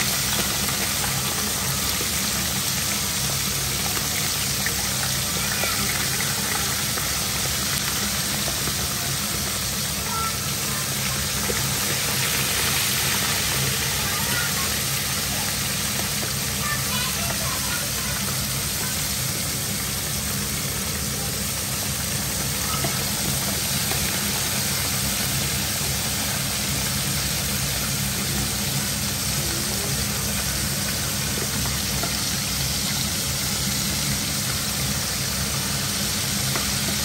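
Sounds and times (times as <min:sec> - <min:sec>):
fish sizzling in hot oil: 0:00.0 - 0:37.0.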